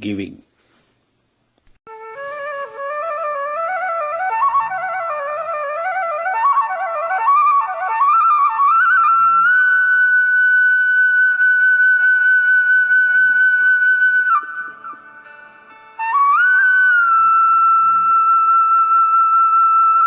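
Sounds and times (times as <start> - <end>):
background music melody: 1.9 - 20.0.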